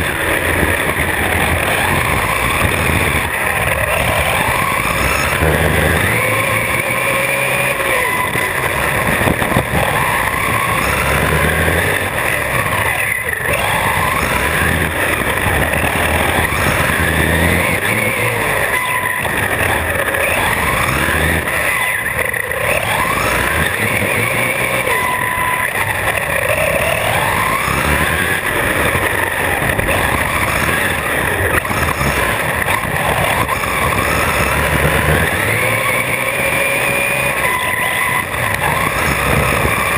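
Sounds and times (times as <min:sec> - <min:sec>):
electric motor whining: 0:00.0 - 0:39.9
tyre and road noise: 0:00.0 - 0:39.9.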